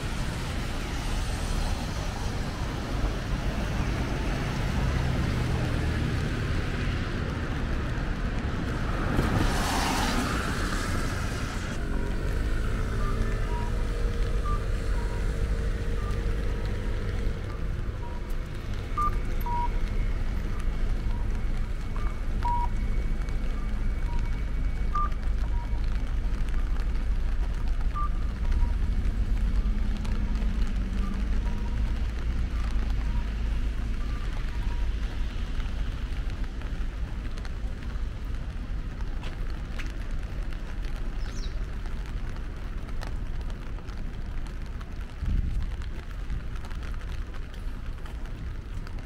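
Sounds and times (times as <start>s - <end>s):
light hiss of rain: 0.0s - 49.0s.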